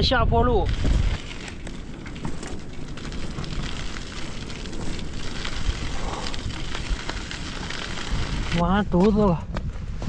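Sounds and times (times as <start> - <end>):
wind rushing over microphone: 0.0 - 10.0
small clicks and crackles: 0.6 - 9.0.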